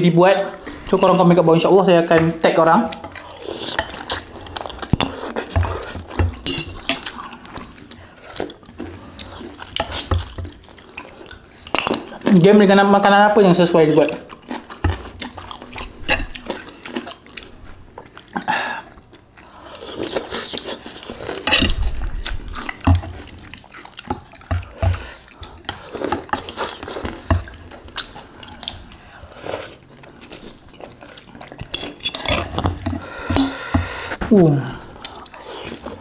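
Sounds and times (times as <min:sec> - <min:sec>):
eating sounds: 0:02.8 - 0:36.0.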